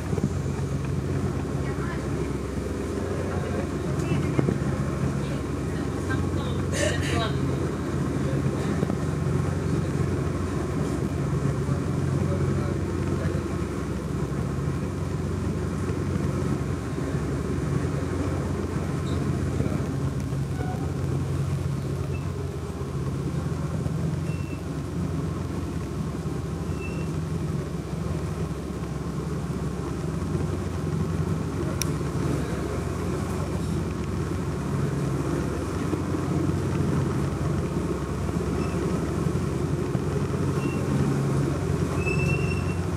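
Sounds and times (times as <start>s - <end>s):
ferry engine droning: 0.0s - 42.9s.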